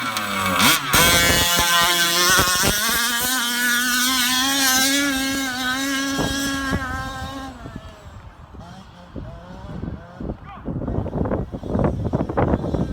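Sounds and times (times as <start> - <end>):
two-stroke engine revving: 0.0 - 12.9.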